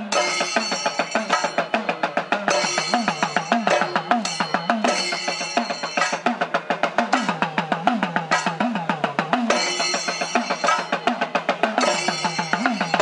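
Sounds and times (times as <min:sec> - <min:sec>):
cymbals ringing: 0:00.0 - 0:13.0
drum beat: 0:00.0 - 0:13.0
hourglass drums struck fast: 0:00.0 - 0:13.0.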